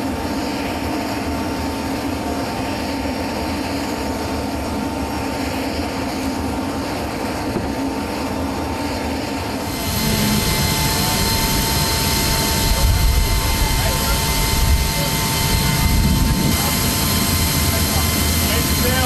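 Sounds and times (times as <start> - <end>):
jet turbine rushing with whine: 0.0 - 19.0.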